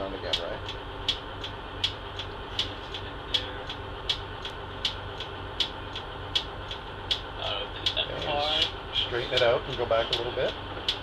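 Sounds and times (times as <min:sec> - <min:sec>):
diesel bus engine running: 0:00.0 - 0:11.0
sharp ticking: 0:00.2 - 0:11.0.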